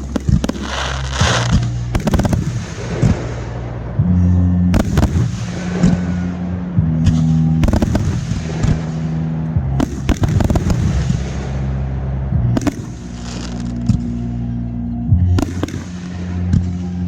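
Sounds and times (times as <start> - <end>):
fireworks bangs and crackle: 0.0 - 14.6, 15.2 - 17.0
music with deep bass: 0.0 - 17.0.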